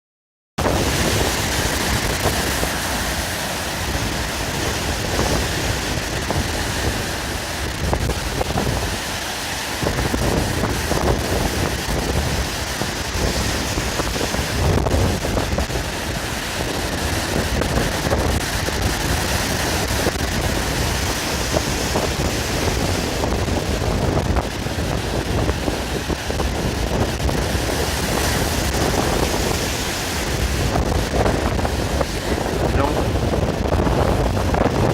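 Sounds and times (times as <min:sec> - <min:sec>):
sea waves breaking: 0:00.6 - 0:34.9
wind buffeting microphone: 0:00.6 - 0:34.9.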